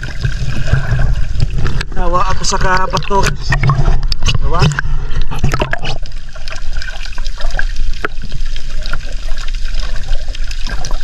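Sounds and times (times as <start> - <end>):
low underwater rumble: 0.0 - 11.0.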